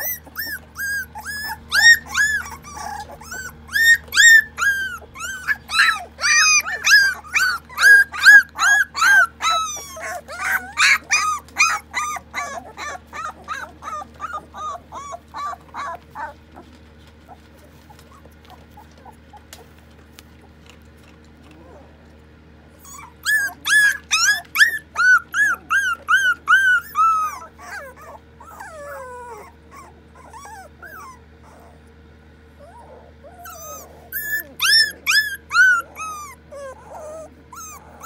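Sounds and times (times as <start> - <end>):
puppies whining and yipping: 0.0 - 22.0, 22.7 - 38.0.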